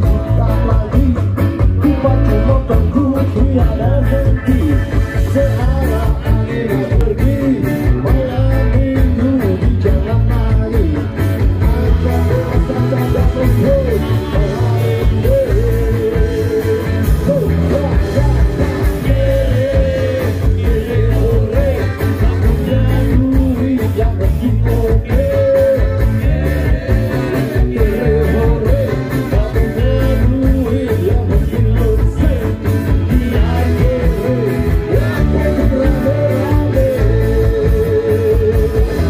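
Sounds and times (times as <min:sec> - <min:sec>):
lead singer singing: 0:00.0 - 0:39.0
live ska band playing: 0:00.0 - 0:39.0.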